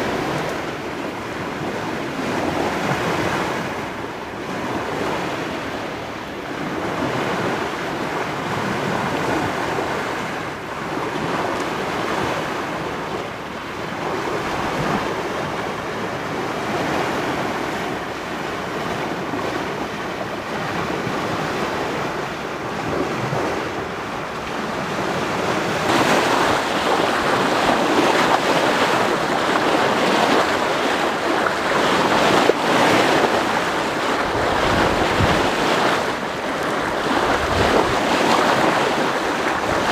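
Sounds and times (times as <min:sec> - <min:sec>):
water rushing along a hull: 0:00.0 - 0:39.9
wind buffeting microphone: 0:00.0 - 0:39.9.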